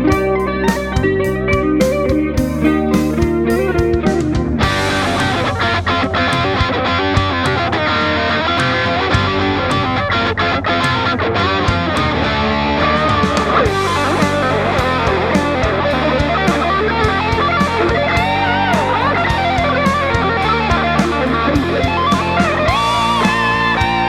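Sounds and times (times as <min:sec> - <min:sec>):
drum beat: 0:00.0 - 0:07.9, 0:08.6 - 0:10.1, 0:10.8 - 0:12.3, 0:12.9 - 0:24.0
bass: 0:00.0 - 0:24.0
electric guitar lead with bends: 0:00.0 - 0:24.0.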